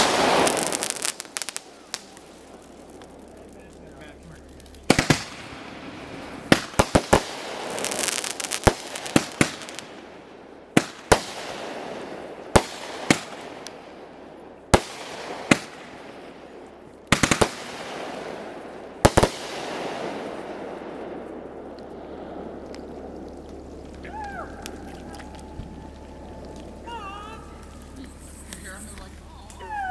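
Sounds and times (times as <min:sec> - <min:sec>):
crackling fizz of fireworks: 0:00.0 - 0:29.9
fireworks bangs: 0:00.0 - 0:29.9.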